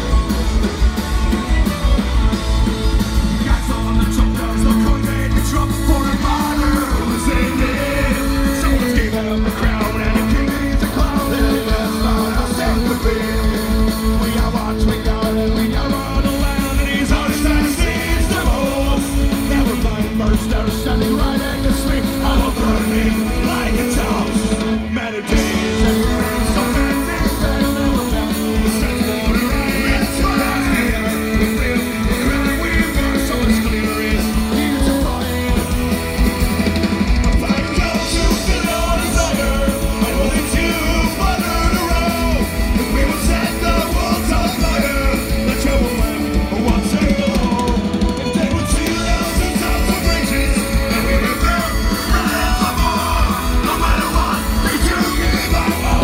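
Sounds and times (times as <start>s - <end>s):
live rock band with fiddle: 0.0s - 56.0s
person singing: 2.8s - 56.0s.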